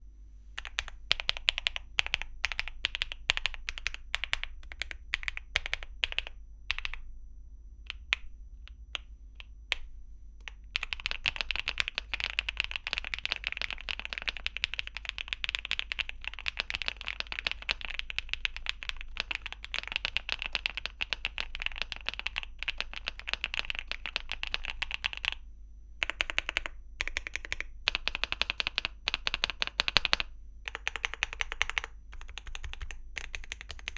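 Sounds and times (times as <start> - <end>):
typing on mechanical keyboard: 0.6 - 7.0, 7.9 - 25.4, 26.0 - 33.9.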